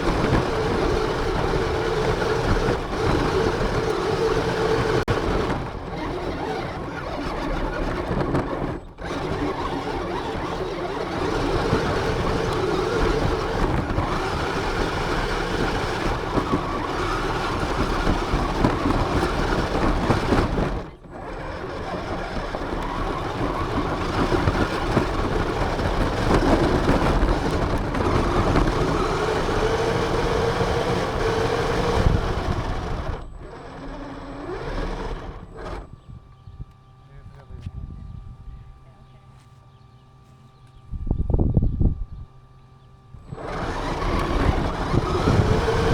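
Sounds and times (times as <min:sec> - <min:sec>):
motor whine rising and falling: 0:00.0 - 0:39.0, 0:39.7 - 0:45.9
rc car motor rumble and rattle: 0:00.0 - 0:45.9.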